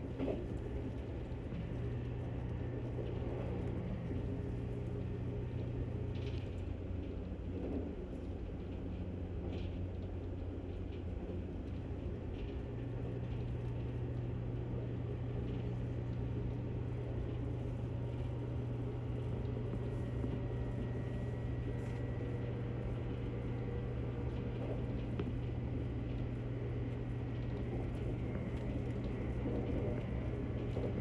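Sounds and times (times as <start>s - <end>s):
train wheels and motors rumbling: 0.0s - 31.0s.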